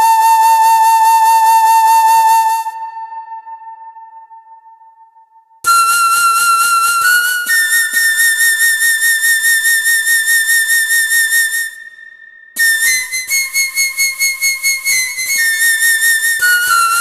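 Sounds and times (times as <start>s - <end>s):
flute-like whistling music: 0.0s - 17.0s.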